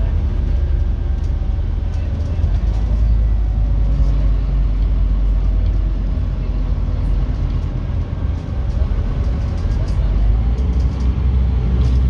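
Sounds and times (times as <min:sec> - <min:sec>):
bus diesel engine drone: 0:00.0 - 0:12.0
road noise rumble: 0:00.0 - 0:12.0.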